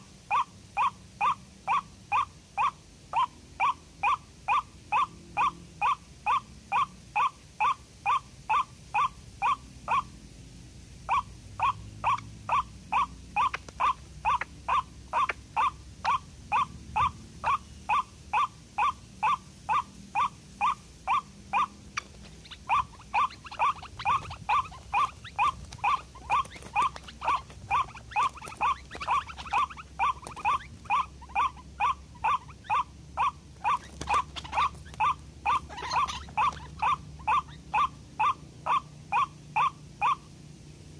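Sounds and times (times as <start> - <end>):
waterhen calls: 0.0 - 10.3, 11.0 - 40.4.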